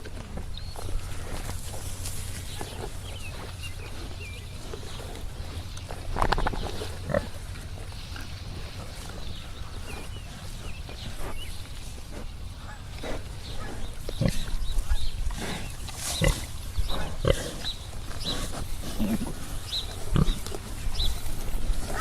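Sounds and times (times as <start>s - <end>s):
pigs grunting: 0.0s - 11.4s, 12.0s - 22.0s.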